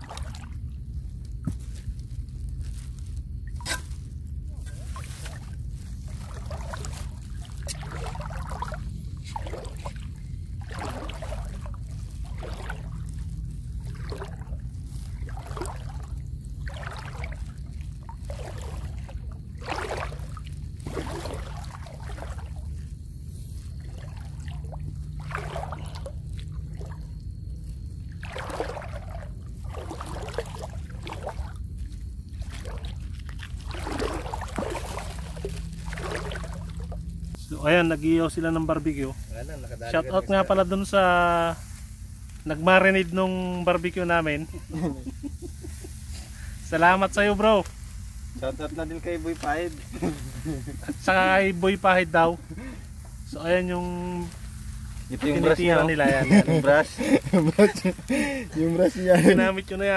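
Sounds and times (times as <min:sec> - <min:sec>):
shallow water splashing: 0:00.0 - 0:59.9
steady low hum: 0:00.0 - 0:59.9.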